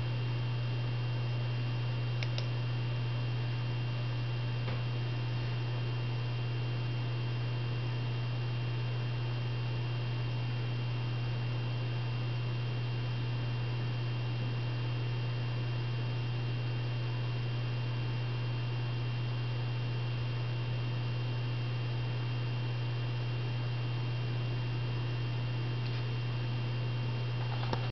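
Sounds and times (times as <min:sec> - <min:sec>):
low electrical hum: 0:00.0 - 0:27.9.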